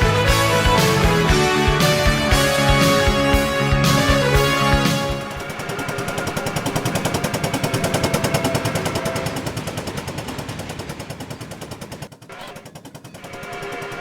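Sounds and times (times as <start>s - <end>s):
steam locomotive exhaust chuffs: 0.2s - 14.0s.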